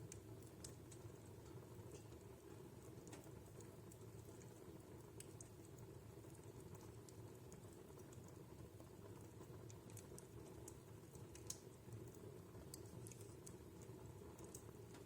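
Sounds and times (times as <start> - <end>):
fireplace crackling faintly: 0.0 - 15.0.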